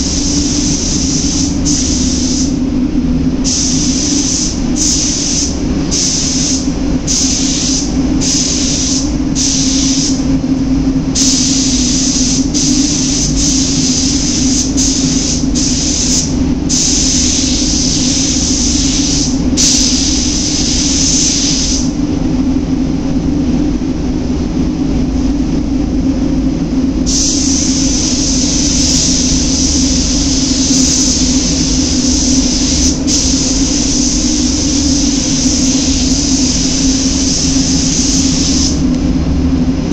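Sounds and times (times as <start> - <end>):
spray gun hissing: 0.0 - 2.6, 3.4 - 10.2, 11.2 - 22.0, 27.1 - 38.8
steady low hum: 0.0 - 39.9.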